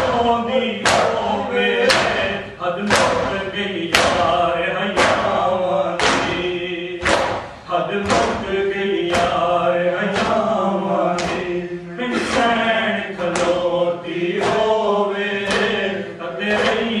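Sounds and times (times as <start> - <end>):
sharp beat: 0.0 - 13.6
voices chanting in unison: 0.0 - 17.0.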